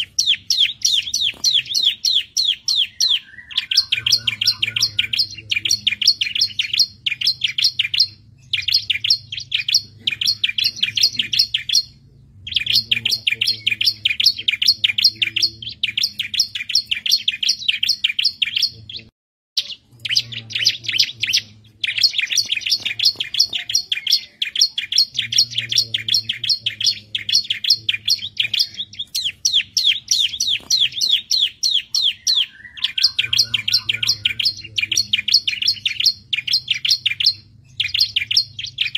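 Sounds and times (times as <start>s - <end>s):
bird singing high chirps: 0.0s - 38.9s
faint low hum: 0.0s - 38.9s.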